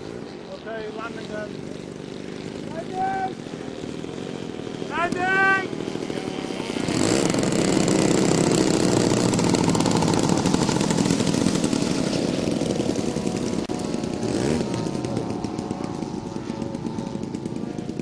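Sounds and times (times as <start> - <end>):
model airplane engine running: 0.0 - 18.0.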